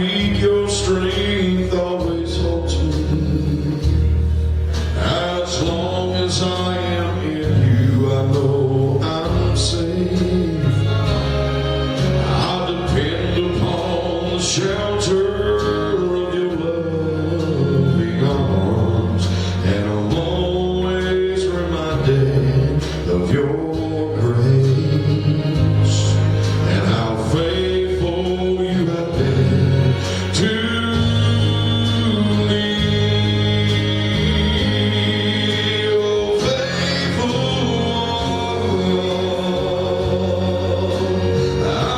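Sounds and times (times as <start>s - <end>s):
gospel instrumental accompaniment: 0.0s - 41.9s
man singing: 0.0s - 41.9s.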